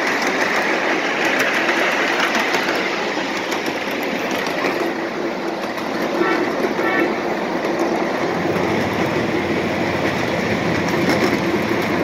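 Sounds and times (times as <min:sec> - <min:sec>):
clicks over rail joints: 0:00.0 - 0:12.0
miniature train wheels rumbling: 0:00.0 - 0:12.0.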